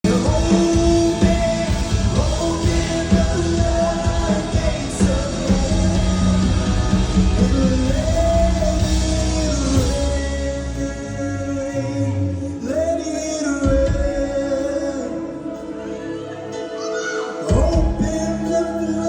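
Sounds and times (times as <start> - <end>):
person singing: 0.0 - 19.0
worship band music: 0.0 - 19.0.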